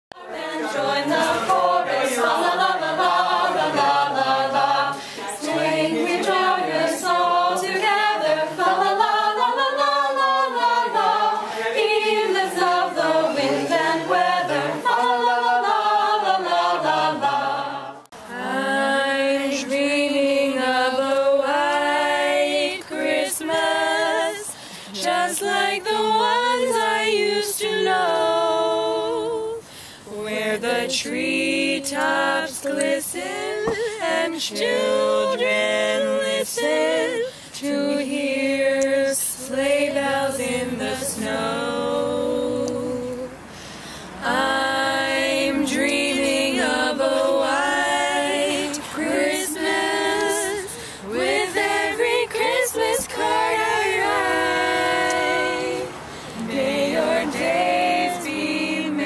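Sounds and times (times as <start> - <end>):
carolers singing a cappella: 0.1 - 59.0.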